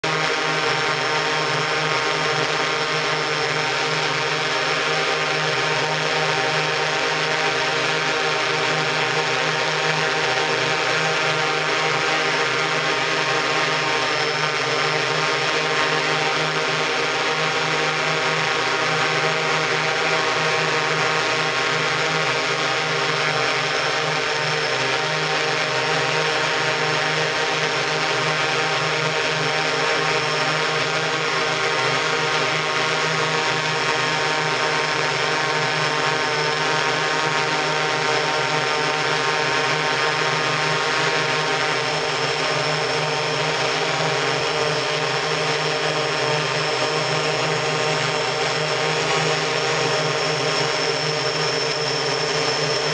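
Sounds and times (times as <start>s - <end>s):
multirotor drone motors whining: 0.1s - 52.9s.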